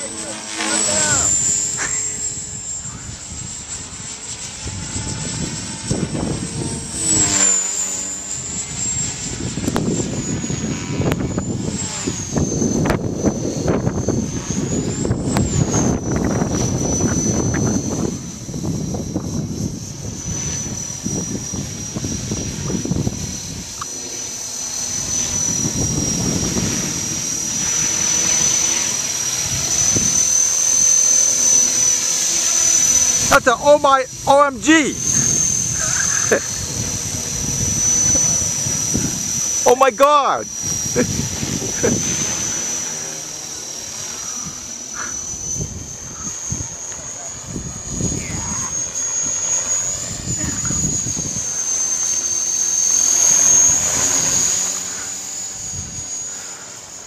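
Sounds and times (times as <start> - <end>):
rc helicopter whine: 0.0 - 57.0.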